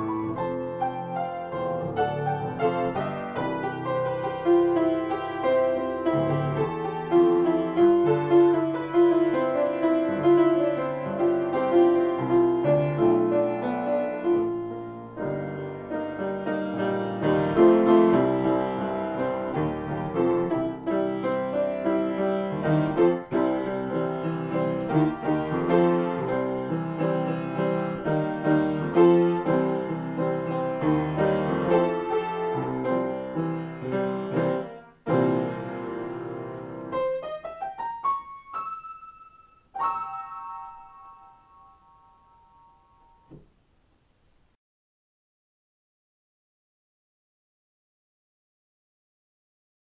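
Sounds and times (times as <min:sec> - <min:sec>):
solo upright piano improvisation: 0:00.0 - 0:44.6.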